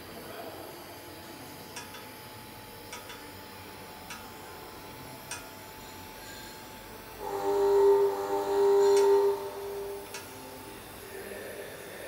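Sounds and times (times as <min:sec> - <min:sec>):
welding arc hiss and whine: 0:00.0 - 0:12.0.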